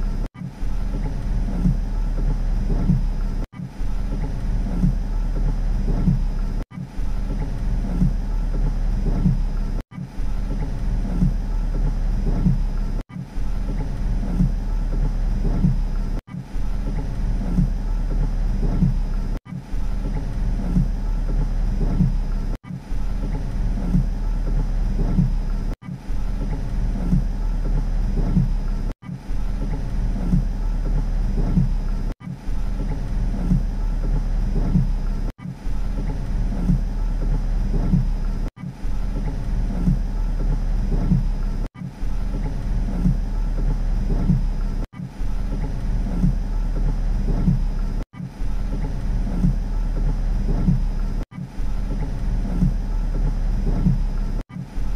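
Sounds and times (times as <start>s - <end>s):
rain on a car roof: 0.0s - 48.0s, 48.6s - 51.2s.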